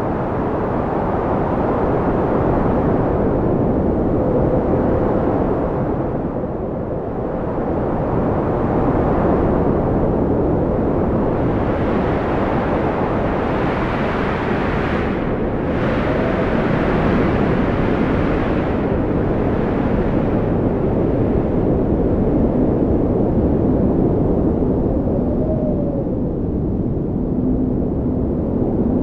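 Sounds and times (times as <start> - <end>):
faint wind whistling: 0.0 - 29.0
strong wind blowing: 0.0 - 29.0.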